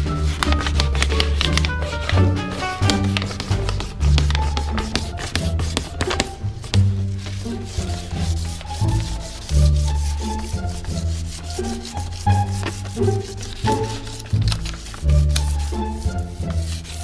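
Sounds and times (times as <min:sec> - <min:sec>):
sandpaper scratching on plastic: 0:00.0 - 0:17.0.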